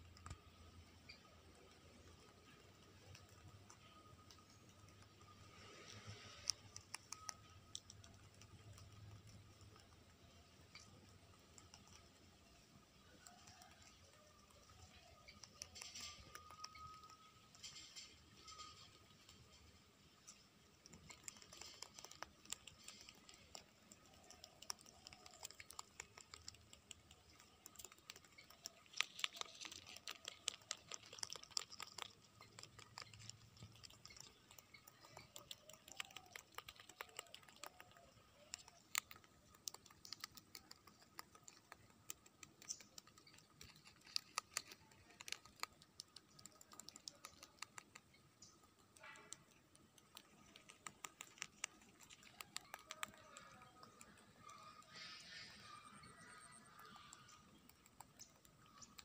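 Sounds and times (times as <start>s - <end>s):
rabbits chewing leaves: 0.0s - 59.0s.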